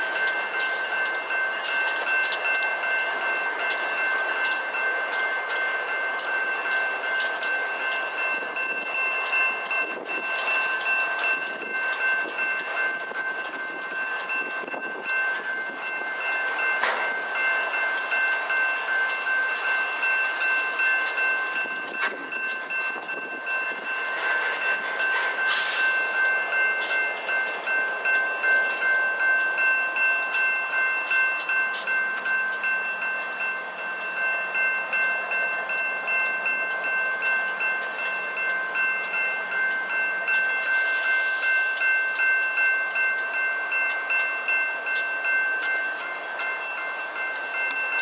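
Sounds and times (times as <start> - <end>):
freight train wheels rumbling: 0.0 - 48.0
steady high-pitched tones: 0.0 - 48.0.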